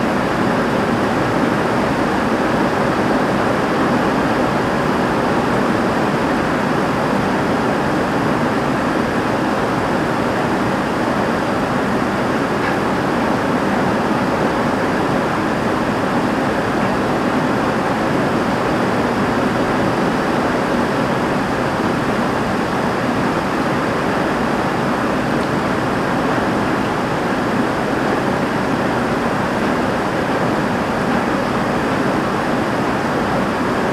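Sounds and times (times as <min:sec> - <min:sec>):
heavy rain on a roof: 0:00.0 - 0:33.9.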